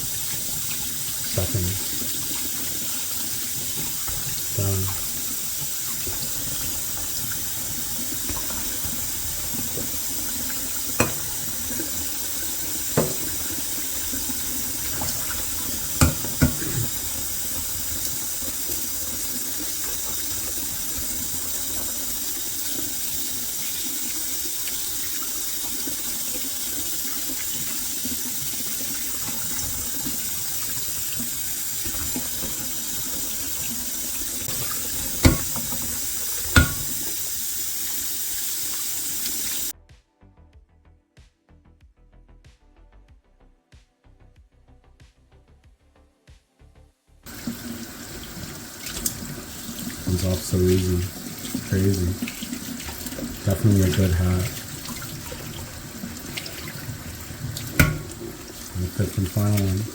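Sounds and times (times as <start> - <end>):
tap running into sink: 0.0 - 39.7, 47.3 - 59.9.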